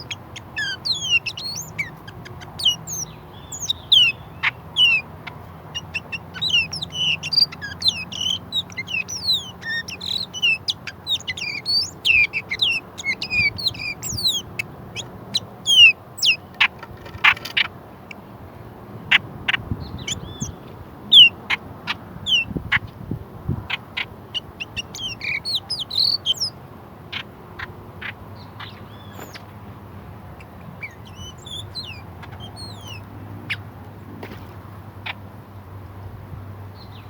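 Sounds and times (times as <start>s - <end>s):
garden birds chirping: 0.0s - 37.0s.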